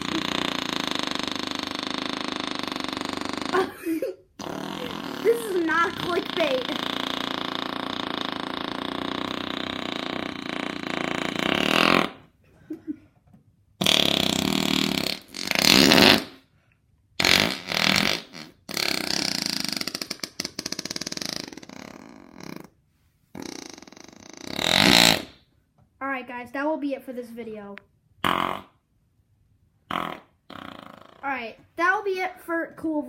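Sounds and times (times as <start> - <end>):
person making fart noises: 0.0 - 16.6, 17.2 - 25.6, 28.2 - 29.0, 29.8 - 33.0.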